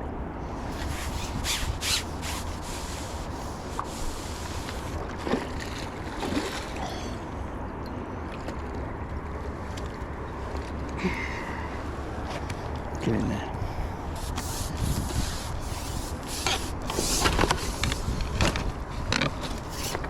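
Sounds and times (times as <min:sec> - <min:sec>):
water sloshing and splashing: 0:00.5 - 0:13.0, 0:14.0 - 0:20.0.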